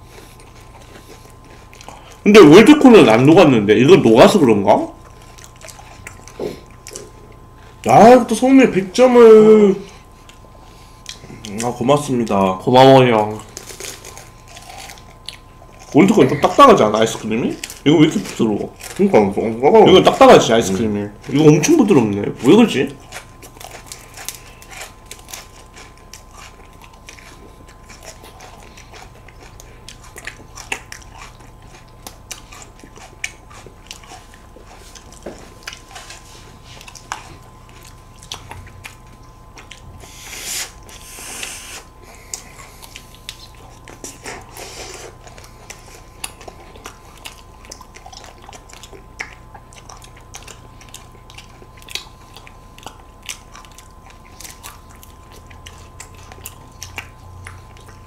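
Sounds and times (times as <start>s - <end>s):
person chewing: 0.0s - 3.1s, 4.2s - 8.0s, 9.8s - 12.4s, 13.0s - 58.0s.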